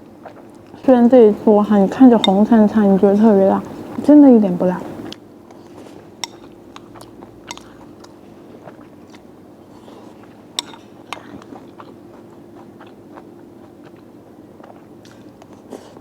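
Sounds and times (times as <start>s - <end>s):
wet chewing mouth noises: 0.0s - 4.1s, 4.8s - 16.0s
faint steady hum: 0.0s - 16.0s.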